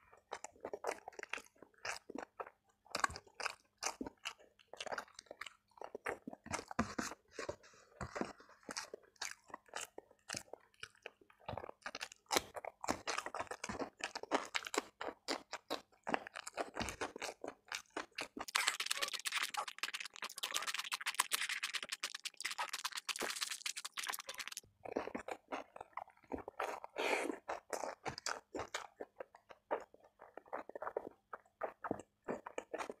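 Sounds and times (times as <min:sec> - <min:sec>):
soft chewing: 0:00.0 - 0:33.0
crunchy cucumber chewing: 0:00.1 - 0:33.0.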